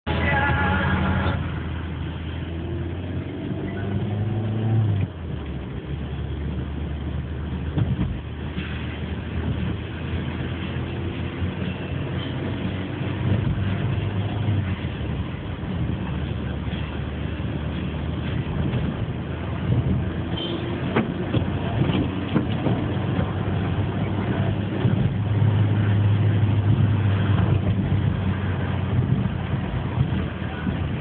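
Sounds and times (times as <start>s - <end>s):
car engine revving: 0.1s - 31.0s.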